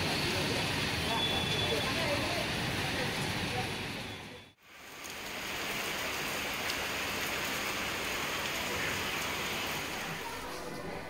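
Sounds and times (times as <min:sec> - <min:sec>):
rain on concrete: 0:00.0 - 0:11.0.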